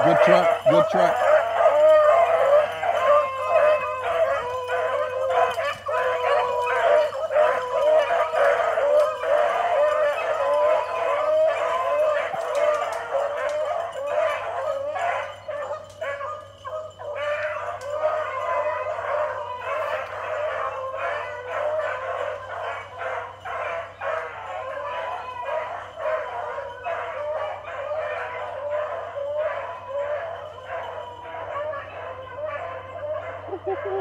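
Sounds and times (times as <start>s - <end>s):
pack of dogs baying: 0.0s - 34.0s.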